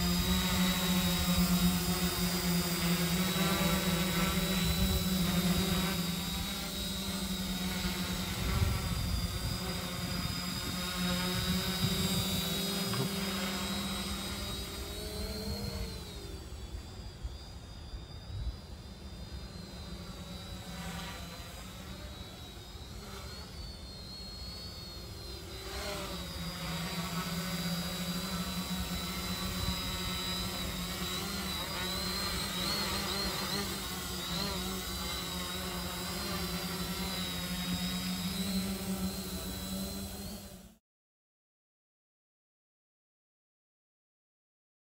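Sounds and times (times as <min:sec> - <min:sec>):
drone propellers buzzing: 0:00.0 - 0:40.8.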